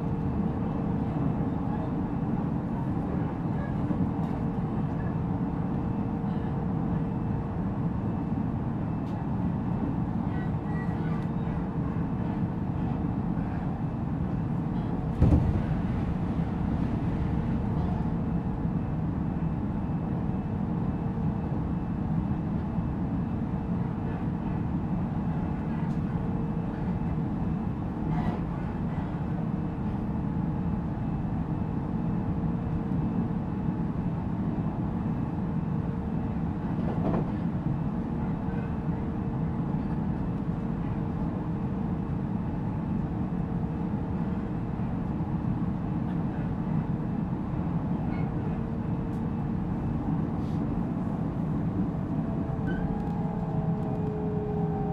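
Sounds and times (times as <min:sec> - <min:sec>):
constant train hum: 0:00.0 - 0:54.9
train wheels rumbling on rail: 0:08.9 - 0:54.9.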